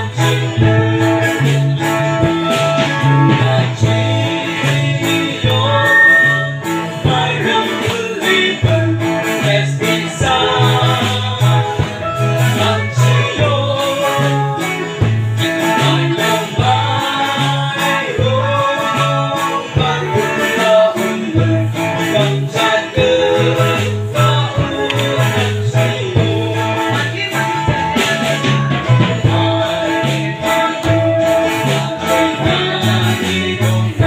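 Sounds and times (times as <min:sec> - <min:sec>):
live band playing: 0:00.0 - 0:34.0
voices singing together: 0:00.0 - 0:34.0.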